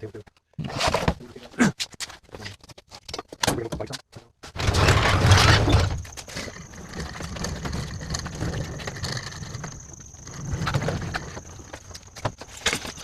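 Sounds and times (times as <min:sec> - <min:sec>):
rumbling and shuffling handling noise: 0:00.0 - 0:13.0.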